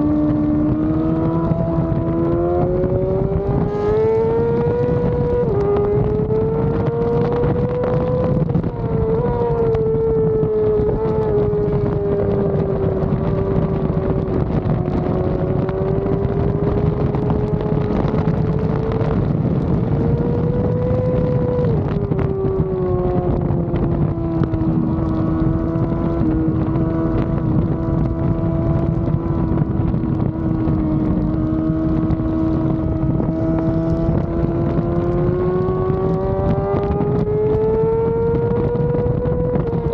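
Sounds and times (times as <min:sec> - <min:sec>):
motorcycle engine at high revs: 0:00.0 - 0:39.9
wind rush over microphone: 0:00.0 - 0:39.9.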